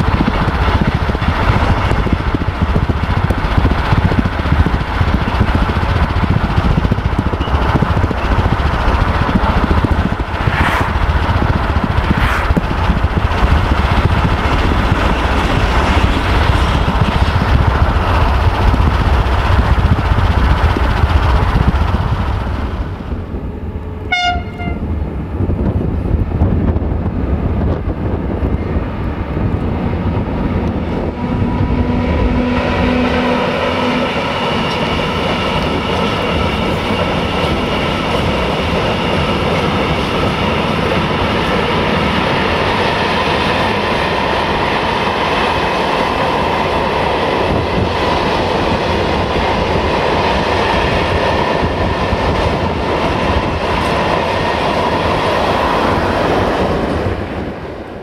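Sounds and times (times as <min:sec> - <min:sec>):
clickety-clack of wheels: 0:00.0 - 0:24.8, 0:25.4 - 0:58.0
train wheels rumbling and rattling: 0:00.0 - 0:58.0.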